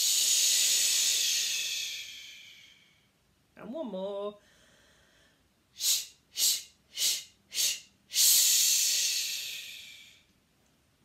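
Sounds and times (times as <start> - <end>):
woman's long hissing breath: 0.0 - 3.1, 4.4 - 10.3
woman breathing sharply: 0.0 - 3.2, 4.4 - 10.3.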